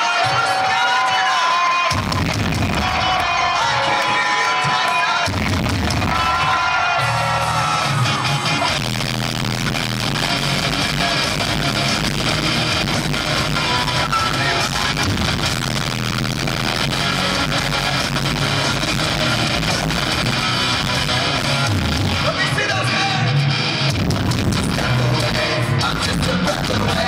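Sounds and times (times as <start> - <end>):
crowd: 0.0 - 27.0
live rock band playing: 1.8 - 4.0, 5.2 - 27.0.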